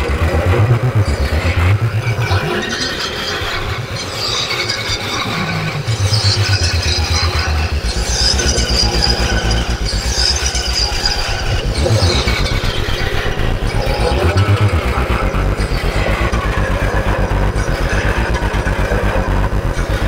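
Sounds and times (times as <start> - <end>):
deep low synth note: 0.0 - 4.2, 5.2 - 20.0
distorted synth bass line: 0.0 - 20.0.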